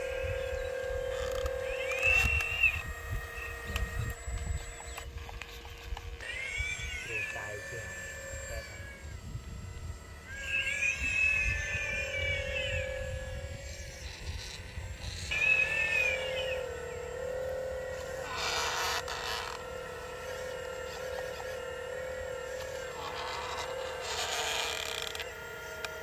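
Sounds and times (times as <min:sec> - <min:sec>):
electric motor whine: 0:00.0 - 0:26.0.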